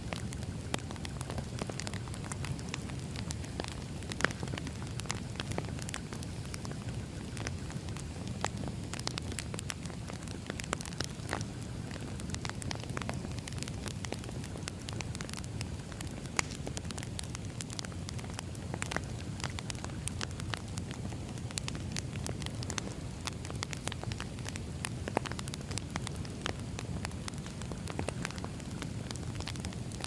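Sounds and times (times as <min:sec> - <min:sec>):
firewood burning and crackling: 0:00.0 - 0:30.0.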